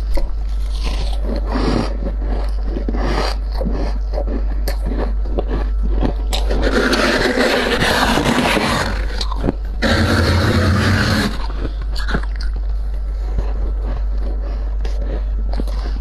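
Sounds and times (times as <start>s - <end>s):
freezer frost scraping and crunching: 0.0s - 16.0s
steady low hum: 0.0s - 16.0s.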